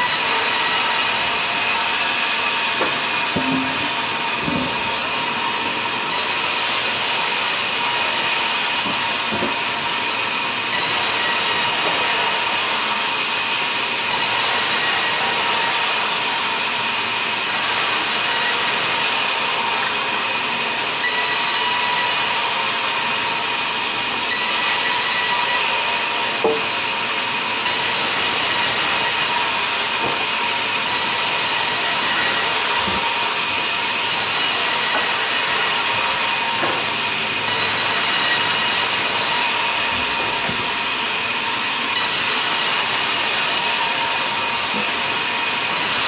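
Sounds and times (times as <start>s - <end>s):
band saw cutting log: 0.0s - 46.0s.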